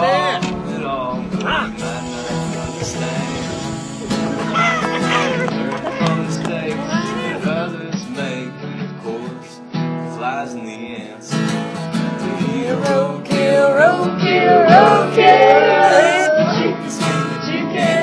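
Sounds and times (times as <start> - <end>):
country song with acoustic guitar: 0.0 - 18.0.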